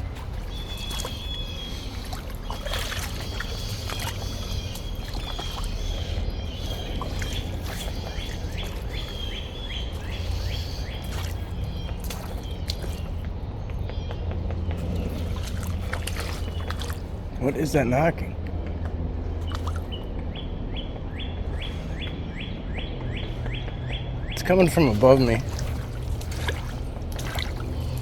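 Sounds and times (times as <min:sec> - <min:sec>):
bird chirping: 0:00.0 - 0:28.0
water sloshing from wading: 0:00.0 - 0:28.0.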